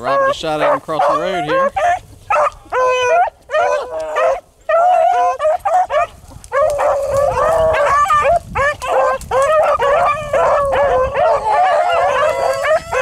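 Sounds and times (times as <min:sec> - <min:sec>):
hounds baying: 0:00.0 - 0:13.0.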